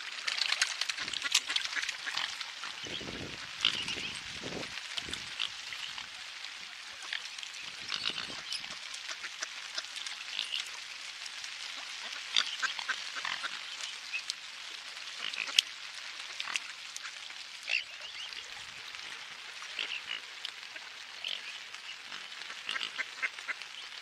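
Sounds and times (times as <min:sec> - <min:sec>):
rain hiss: 0:00.0 - 0:24.0
swans and ducks calling: 0:00.0 - 0:24.0.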